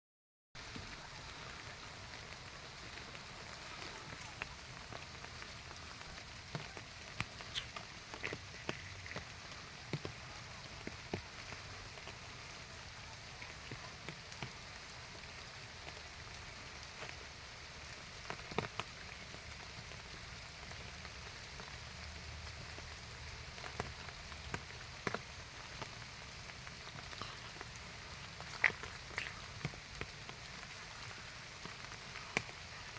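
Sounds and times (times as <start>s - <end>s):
rain hissing: 0.6s - 32.9s
sharp drips: 0.7s - 17.3s, 18.0s - 32.9s.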